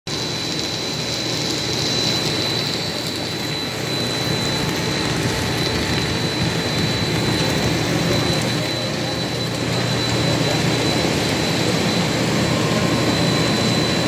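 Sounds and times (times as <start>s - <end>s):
machine noise with high whine: 0.1s - 14.0s.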